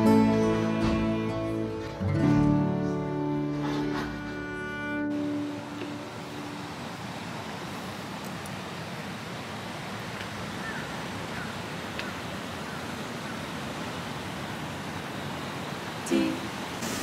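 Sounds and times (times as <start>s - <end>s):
distant traffic hiss: 0.0s - 17.0s
wind: 0.0s - 17.0s.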